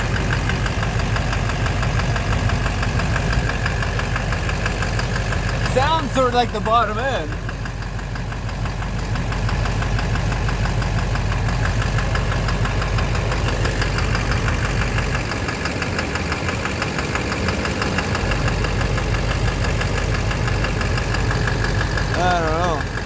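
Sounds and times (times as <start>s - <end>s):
diesel engine knocking: 0.0s - 23.0s.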